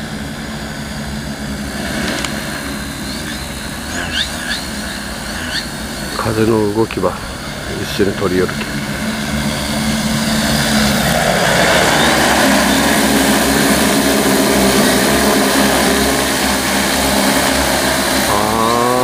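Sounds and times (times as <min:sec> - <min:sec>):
drone rotor whir: 0:00.0 - 0:19.0.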